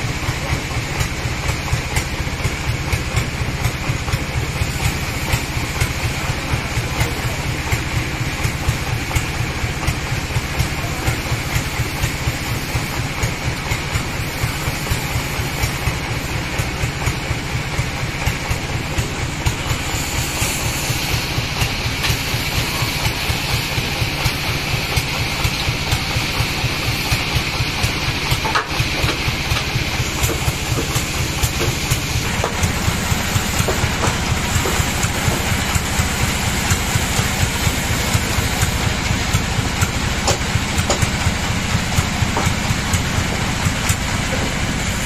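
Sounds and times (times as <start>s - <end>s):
bandsaw machinery droning: 0.0s - 45.0s.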